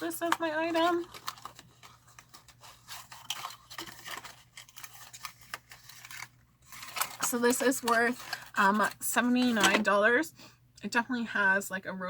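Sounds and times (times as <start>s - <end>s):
small box clicking and scratching: 0.0s - 9.8s
low room hum: 0.0s - 12.0s.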